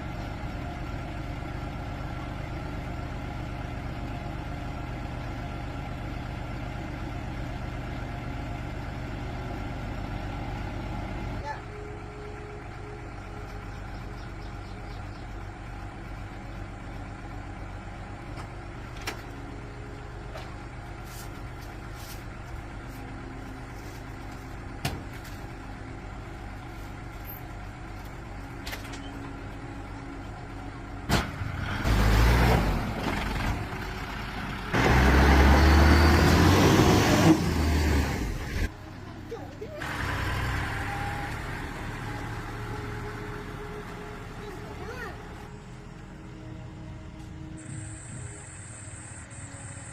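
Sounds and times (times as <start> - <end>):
truck engine idling and revving: 0.0 - 49.9.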